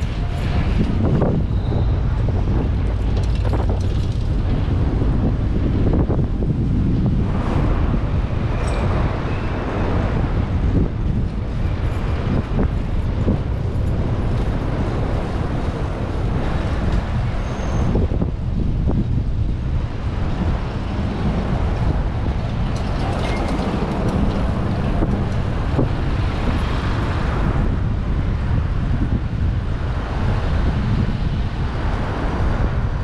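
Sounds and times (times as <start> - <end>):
vehicle traffic noise: 0.0 - 33.0
wind on microphone: 0.0 - 33.0.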